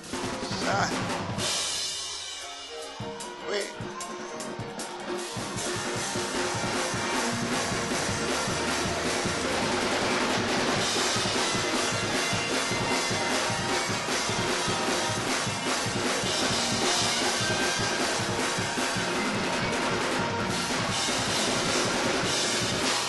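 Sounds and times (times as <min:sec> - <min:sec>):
drum kit: 0:00.0 - 0:23.0
live band playing: 0:00.0 - 0:23.0.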